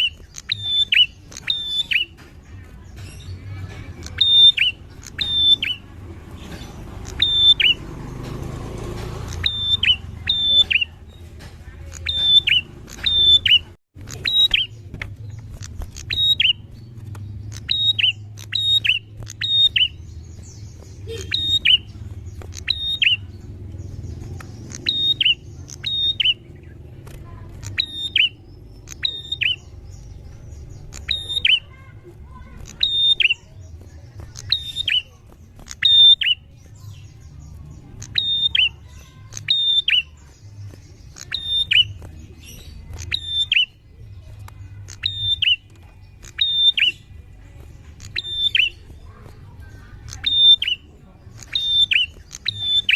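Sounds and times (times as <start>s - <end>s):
bird calling high sharp notes: 0.0s - 7.9s, 9.2s - 11.2s, 11.8s - 26.7s, 27.6s - 43.9s, 44.7s - 47.2s, 48.0s - 52.9s.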